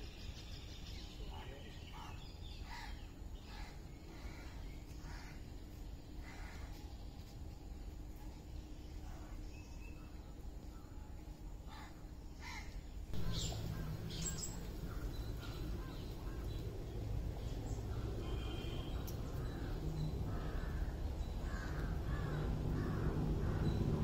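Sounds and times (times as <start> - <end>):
birds calling: 0.0 - 7.4, 11.6 - 24.0
low outdoor rumble: 0.0 - 24.0.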